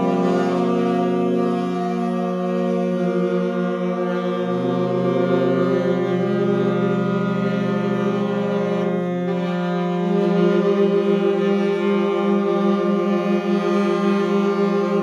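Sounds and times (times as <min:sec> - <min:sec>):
saxophones holding sustained notes: 0:00.0 - 0:15.0.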